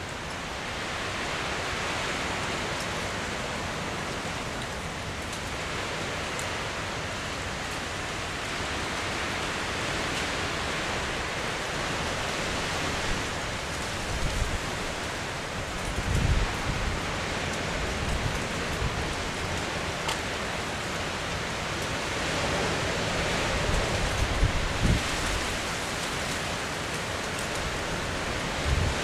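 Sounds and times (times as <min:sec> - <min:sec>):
steady outdoor rushing noise: 0:00.0 - 0:29.0.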